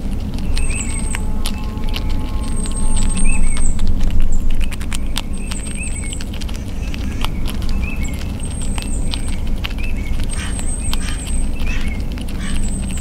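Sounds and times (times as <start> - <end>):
squirrel gnawing and cracking nut: 0.0 - 13.0
steady low rumble: 0.0 - 13.0
thin high chirp: 0.4 - 13.0.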